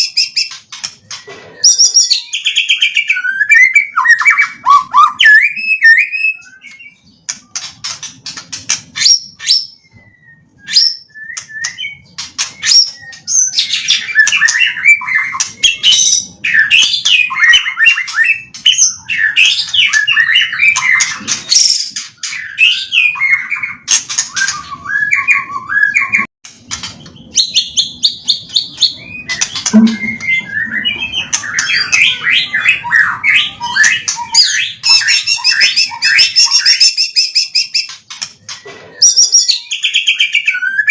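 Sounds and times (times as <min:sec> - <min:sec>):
songbird singing trills and whistles: 0:00.0 - 0:40.9.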